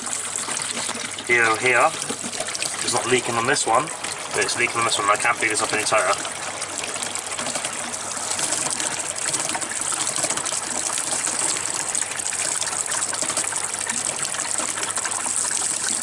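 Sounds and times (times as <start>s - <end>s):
waste water gushing through pipes: 0.0s - 16.0s.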